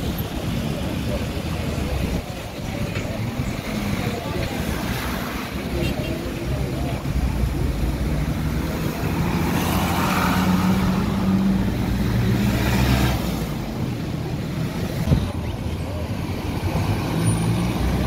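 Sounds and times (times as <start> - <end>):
outdoor noise: 0.0 - 18.0.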